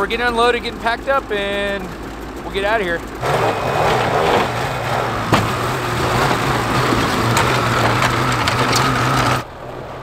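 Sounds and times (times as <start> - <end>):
snowmobile engine running: 0.0 - 9.6.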